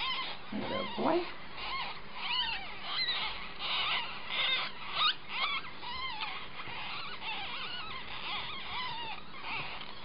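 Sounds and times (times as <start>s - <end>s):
ferret kit squeaking: 0.0s - 10.0s.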